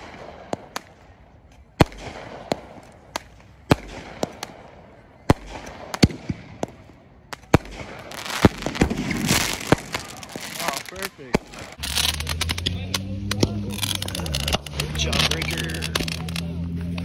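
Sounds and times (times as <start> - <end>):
fireworks bangs with echo: 0.0 - 16.4.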